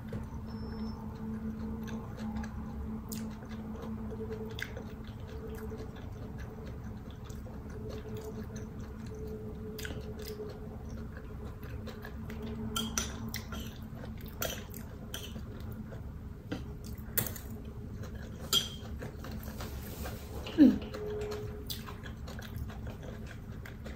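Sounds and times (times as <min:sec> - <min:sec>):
chewing food: 0:00.0 - 0:23.9
faint steady hum: 0:00.0 - 0:23.9.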